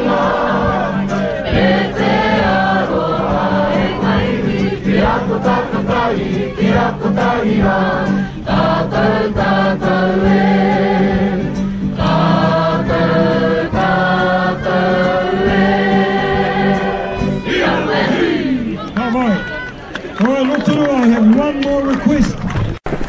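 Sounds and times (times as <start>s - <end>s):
choir singing: 0.0s - 18.8s.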